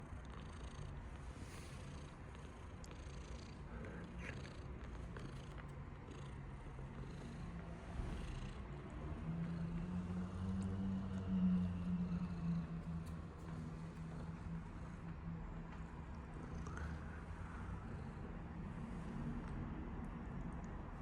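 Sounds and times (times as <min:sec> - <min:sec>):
cat purring: 0:00.2 - 0:20.6.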